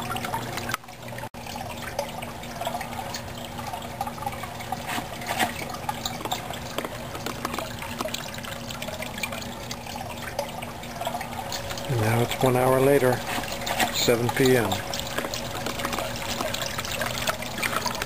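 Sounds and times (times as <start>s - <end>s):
steady low hum: 0.0s - 18.0s
water trickling into a pond: 0.0s - 18.0s.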